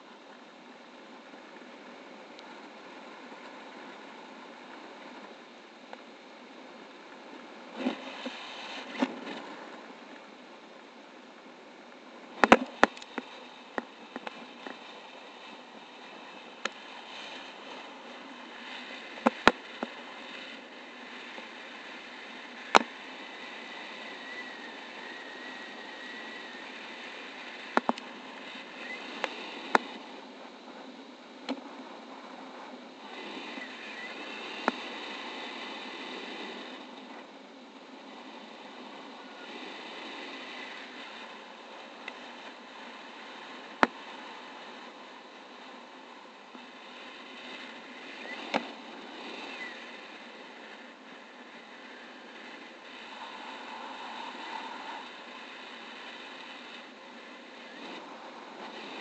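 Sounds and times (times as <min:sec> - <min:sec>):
airflow rushing over camera: 0:01.0 - 0:59.0.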